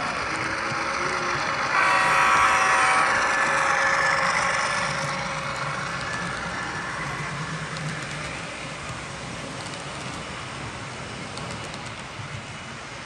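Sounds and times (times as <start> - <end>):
model locomotive engine hum: 0.0 - 13.0.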